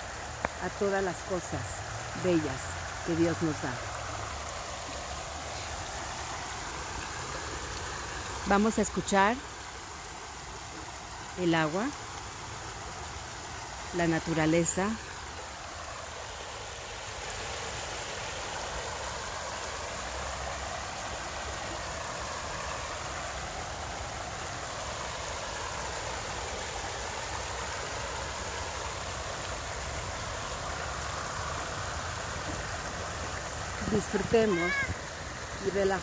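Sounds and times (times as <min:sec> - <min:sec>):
waterfall splashing into pond: 0:00.0 - 0:36.0.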